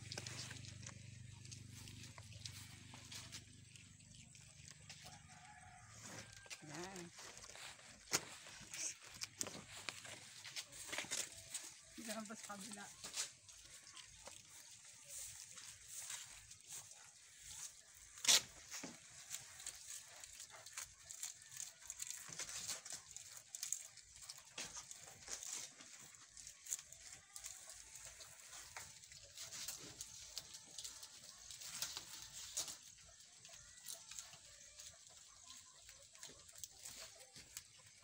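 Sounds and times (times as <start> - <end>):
banana leaves rustling and crackling: 0.0 - 38.0.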